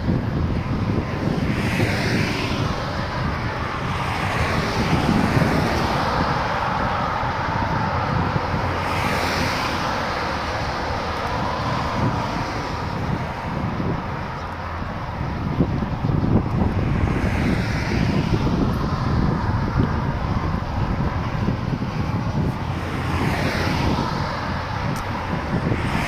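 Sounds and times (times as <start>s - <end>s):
steady engine drone: 0.0s - 26.0s
wind buffeting microphone: 0.0s - 26.0s.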